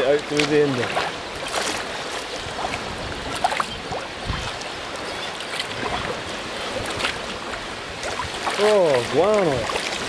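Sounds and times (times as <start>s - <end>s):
water lapping against hull: 0.0s - 10.0s
seabird calls: 1.1s - 9.2s.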